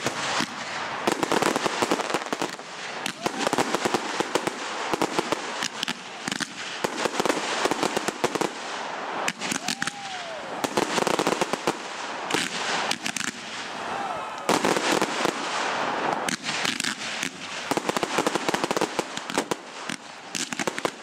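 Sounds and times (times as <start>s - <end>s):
firework crackling: 0.0s - 21.0s
fireworks cracks and bangs: 0.0s - 21.0s.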